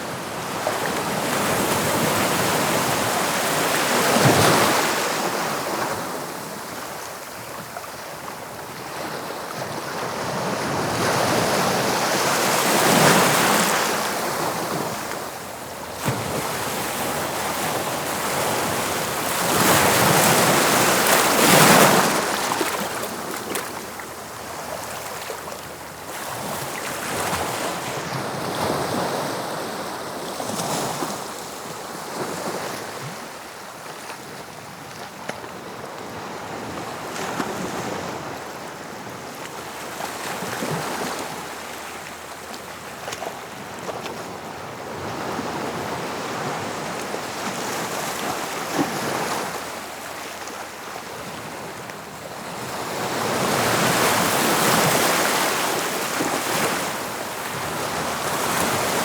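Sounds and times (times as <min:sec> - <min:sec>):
sea waves breaking on shore: 0:00.0 - 0:33.3, 0:36.2 - 0:59.0.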